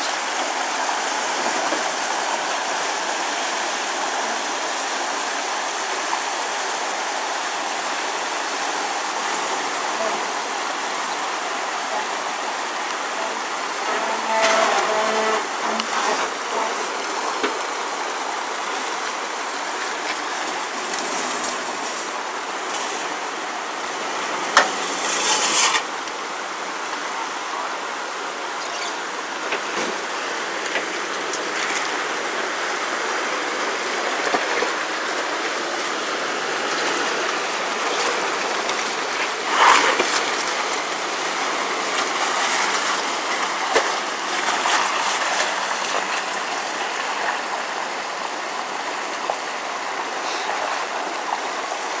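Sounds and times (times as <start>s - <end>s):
water rushing and splashing: 0.0s - 52.0s.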